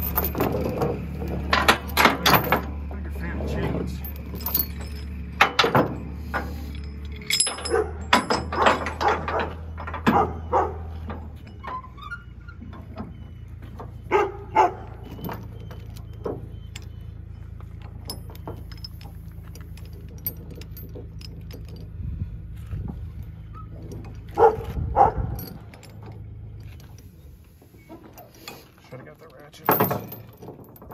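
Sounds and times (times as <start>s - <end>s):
chain clanking on wooden deck: 0.0s - 30.9s.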